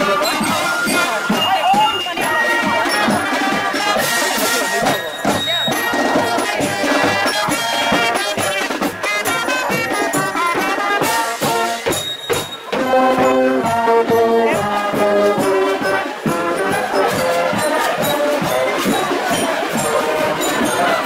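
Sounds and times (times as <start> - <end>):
brass melody: 0.0 - 21.0
drums beating: 0.0 - 21.0.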